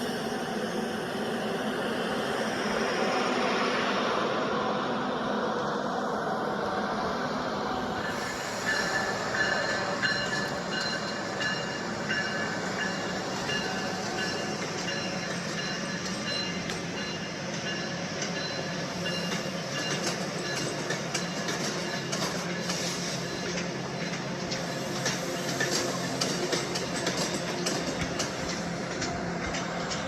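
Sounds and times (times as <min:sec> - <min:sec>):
train rumbling on rails: 0:00.0 - 0:30.0
wheels squealing against rails: 0:00.0 - 0:30.0.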